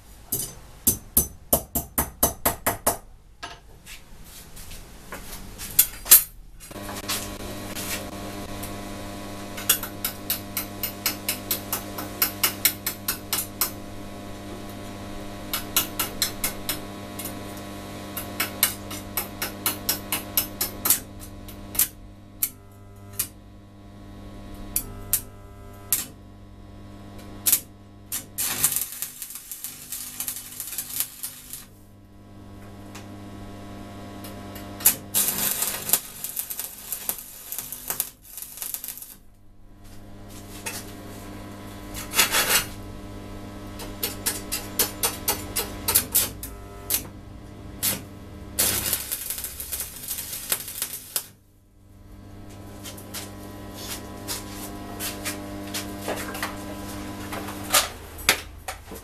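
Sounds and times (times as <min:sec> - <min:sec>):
steady electrical hum: 0:02.9 - 0:59.0
welding arc crackle: 0:05.7 - 0:58.8.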